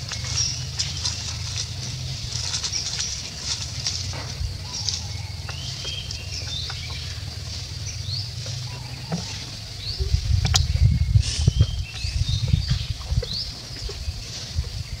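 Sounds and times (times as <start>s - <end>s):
low rumble: 0.0s - 15.0s
rustling in dry leaves: 0.0s - 15.0s
small birds chirping: 0.0s - 15.0s.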